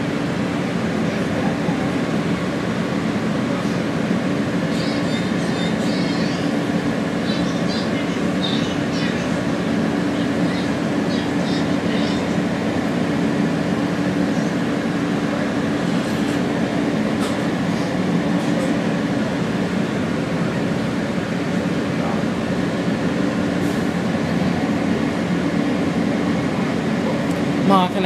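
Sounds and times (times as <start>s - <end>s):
constant low hum: 0.0s - 28.0s
subway car rumble and rail noise: 0.0s - 28.0s.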